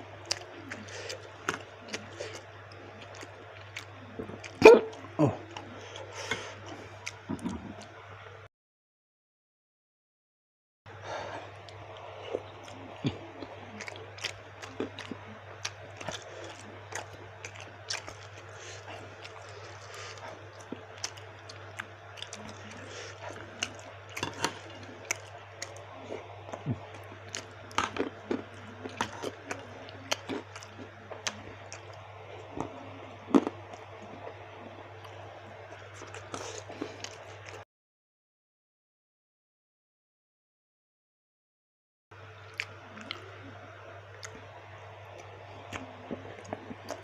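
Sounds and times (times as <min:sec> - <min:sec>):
chewy food chewing close-up: 0:00.0 - 0:08.0, 0:11.4 - 0:37.6, 0:42.3 - 0:47.0.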